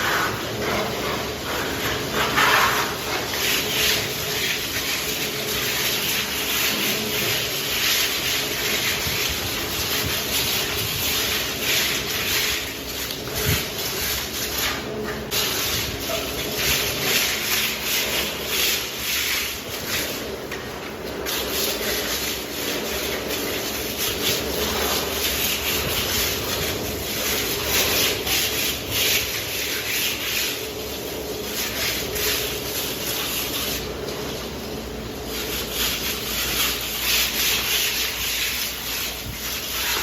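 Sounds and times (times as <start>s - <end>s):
trowel scraping plaster on wall: 0.0s - 34.5s, 35.2s - 40.0s.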